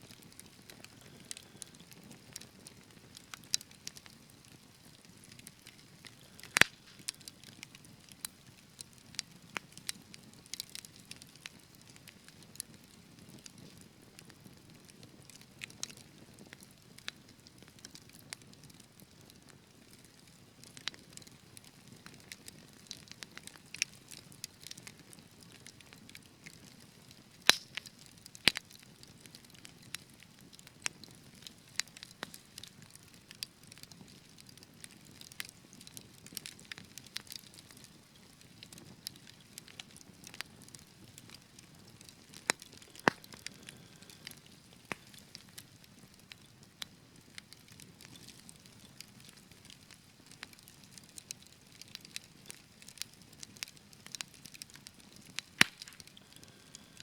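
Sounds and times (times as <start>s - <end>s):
fire crackling with pops: 0.0s - 57.0s.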